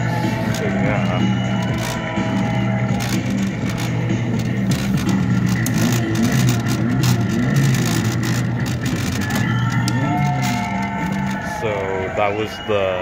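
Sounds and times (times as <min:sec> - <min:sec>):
recorded race car engine revving: 0:00.0 - 0:11.6.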